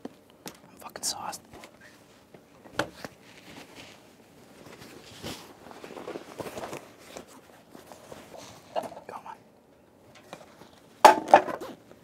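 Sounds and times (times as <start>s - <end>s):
quiet rustling and shuffling: 0.0s - 11.0s.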